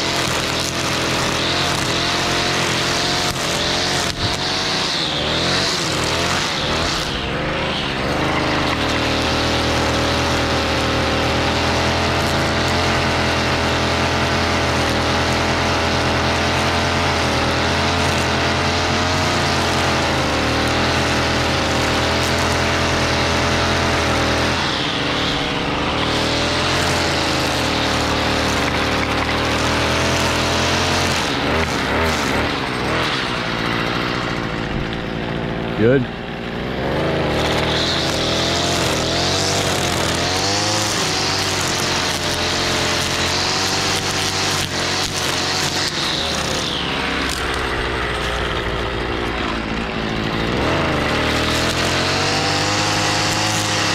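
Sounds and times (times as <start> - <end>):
string trimmer engine running: 0.0 - 53.9.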